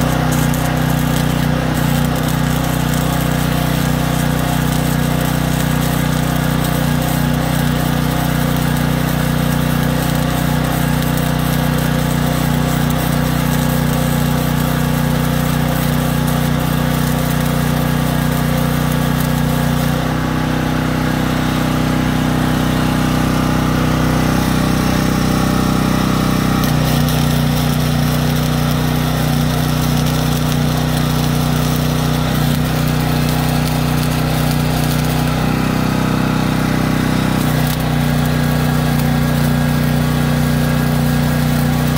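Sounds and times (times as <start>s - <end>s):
angle grinder: 0.0s - 41.9s
arc welding crackle: 0.0s - 41.9s
generator engine running: 0.0s - 41.9s.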